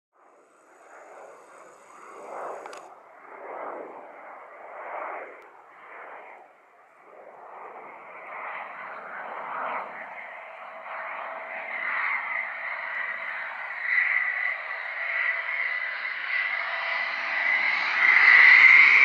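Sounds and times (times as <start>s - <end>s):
distant jet rushing: 0.2s - 19.0s
jet engine whine: 0.2s - 19.0s.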